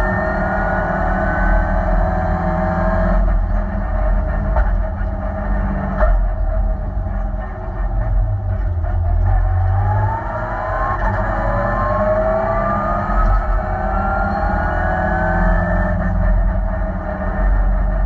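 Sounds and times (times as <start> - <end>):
car engine accelerating: 0.0 - 18.0
road and tyre noise: 0.0 - 18.0.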